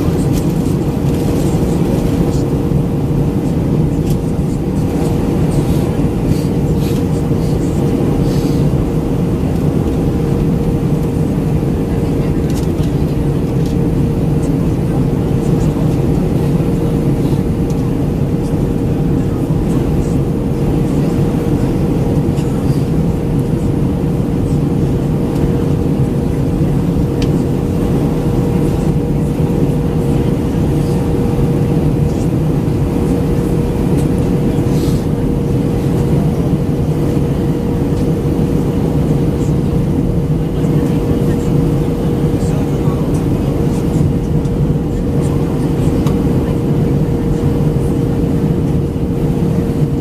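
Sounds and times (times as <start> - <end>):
airflow roar: 0.0 - 50.0
jet engine hum: 0.0 - 50.0.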